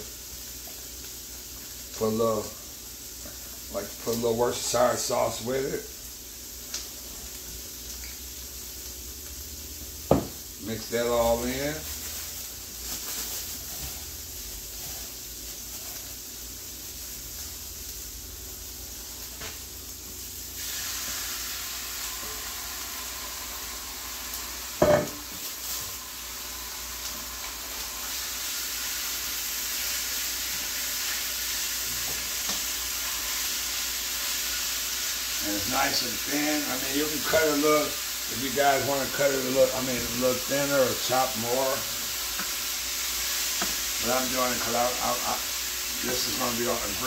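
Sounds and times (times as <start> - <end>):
vegetables and meat sizzling in skillet: 0.0 - 47.0.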